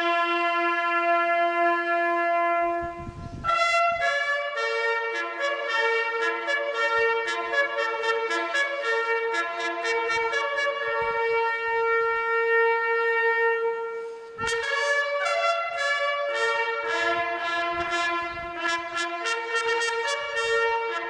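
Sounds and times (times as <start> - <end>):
brass-like instrumental melody: 0.0 - 21.0.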